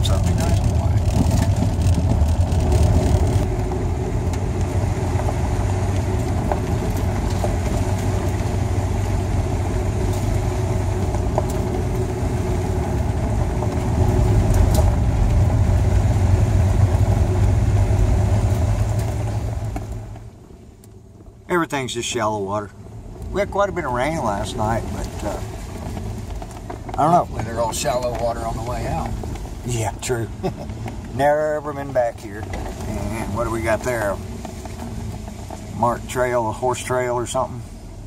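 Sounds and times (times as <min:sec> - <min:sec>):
engine and tyre rumble on gravel: 0:00.0 - 0:38.0.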